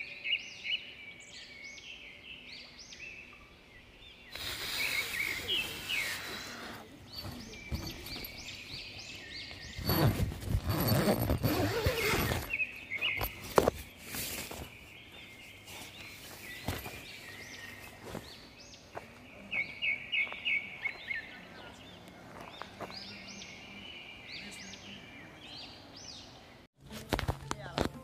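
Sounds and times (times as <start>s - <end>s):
birds chirping: 0.0s - 26.7s.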